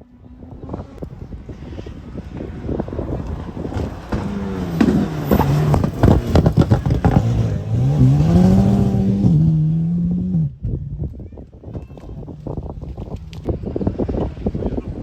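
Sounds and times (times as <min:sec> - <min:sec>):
rally car engine revving: 0:00.1 - 0:11.2, 0:12.0 - 0:15.0
exhaust pops crackling: 0:00.9 - 0:09.6, 0:10.6 - 0:14.4.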